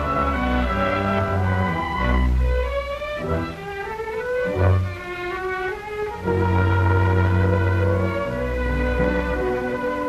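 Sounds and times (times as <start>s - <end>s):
orchestral music with violins: 0.0s - 10.0s.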